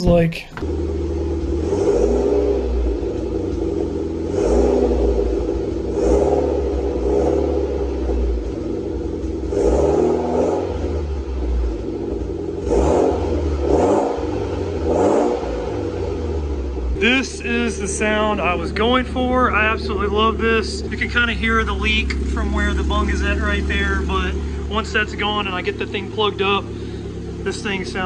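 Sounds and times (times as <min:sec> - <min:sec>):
car engine idling with throttle blips: 0:00.0 - 0:28.0
exhaust leak: 0:00.6 - 0:28.0.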